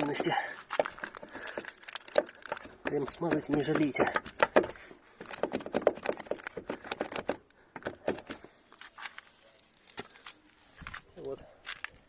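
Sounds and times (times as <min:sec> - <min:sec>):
soap scraping on metal strap: 0:00.0 - 0:10.2.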